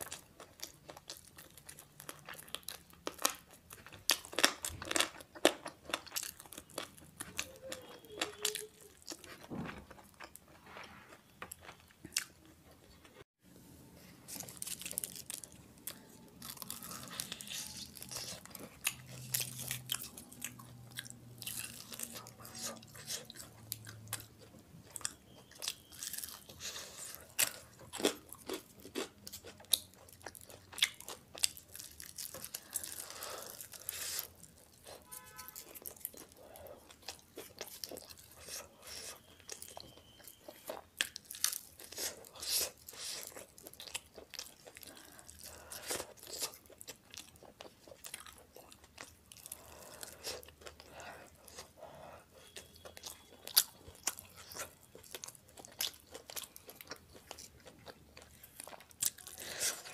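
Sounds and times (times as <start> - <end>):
crunching and chewing fried chicken: 0.0 - 13.2, 14.0 - 59.9.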